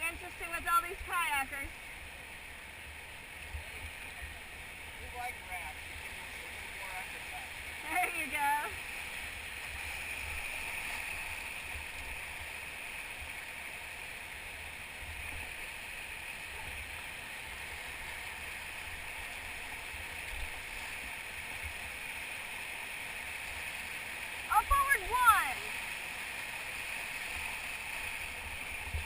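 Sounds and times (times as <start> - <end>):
whitewater river rushing: 3.0 - 29.0.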